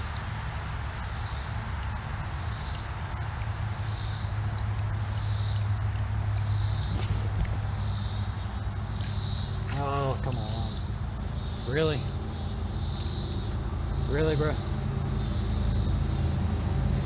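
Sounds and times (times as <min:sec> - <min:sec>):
insects trilling: 0:00.0 - 0:17.0
pulsing insect call: 0:00.0 - 0:17.0.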